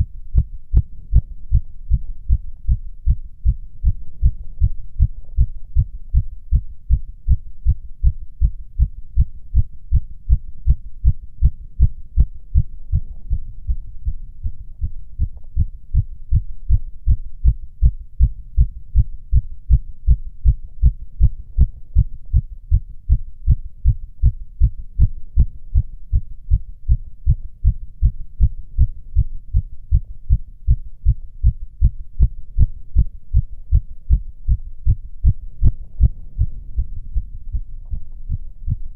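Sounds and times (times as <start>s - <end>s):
fast heartbeat through stethoscope: 0.0s - 38.9s.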